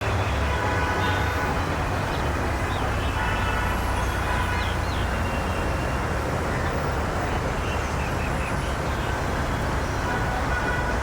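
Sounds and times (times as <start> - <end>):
urban traffic rumble: 0.0 - 11.0.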